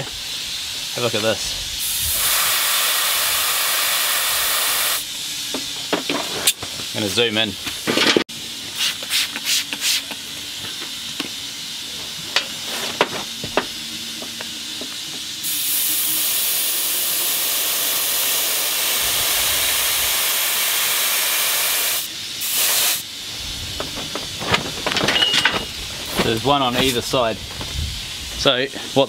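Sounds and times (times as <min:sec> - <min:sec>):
compressed air hissing: 0:00.0 - 0:07.9, 0:08.5 - 0:29.0.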